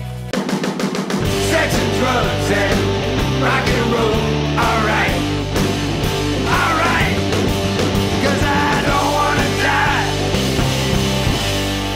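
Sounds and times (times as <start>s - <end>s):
loud rock music with drums: 0.0s - 11.9s.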